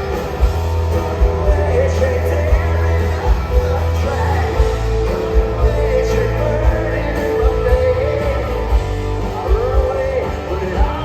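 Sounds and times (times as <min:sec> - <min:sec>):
bass: 0:00.0 - 0:11.0
drums: 0:00.0 - 0:11.0
electric guitar: 0:00.0 - 0:11.0
lead vocal singing: 0:00.0 - 0:11.0.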